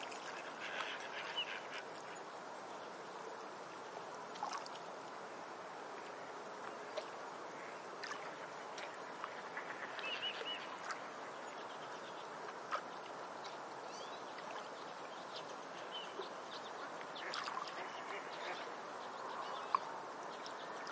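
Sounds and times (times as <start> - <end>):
steady background noise: 0.0 - 20.9.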